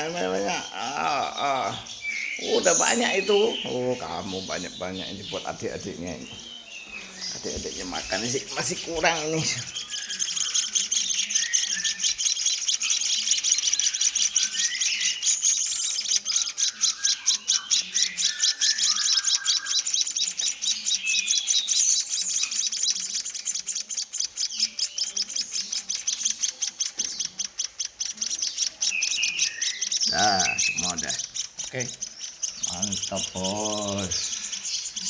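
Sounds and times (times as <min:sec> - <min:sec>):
baby birds begging chirps: 0:00.0 - 0:35.0.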